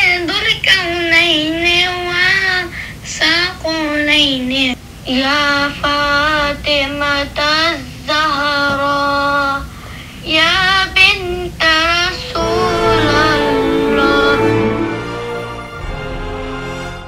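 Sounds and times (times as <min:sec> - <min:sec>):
child singing: 0:00.0 - 0:09.6, 0:10.2 - 0:14.7.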